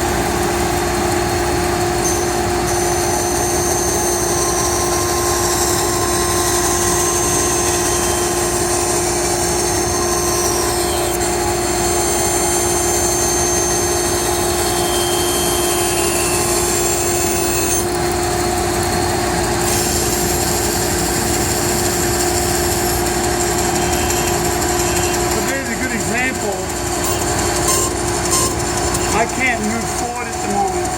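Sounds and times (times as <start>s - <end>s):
band saw cutting wood: 0.0s - 30.9s.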